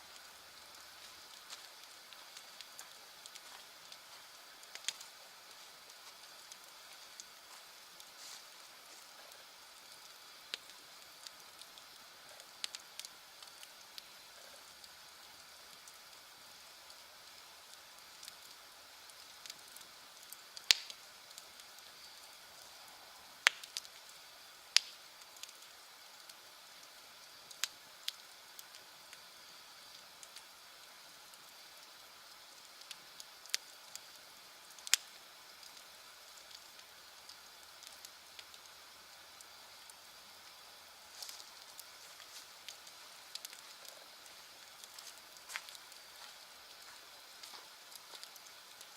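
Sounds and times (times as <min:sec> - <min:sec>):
campfire crackling and popping: 0:00.0 - 0:48.9
fire hiss: 0:00.0 - 0:48.9.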